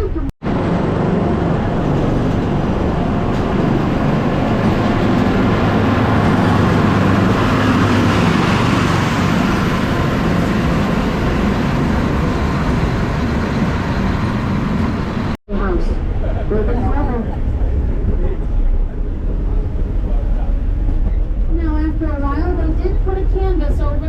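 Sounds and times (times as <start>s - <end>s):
low engine drone: 0.0s - 24.0s
train mechanical rumble: 0.0s - 24.0s.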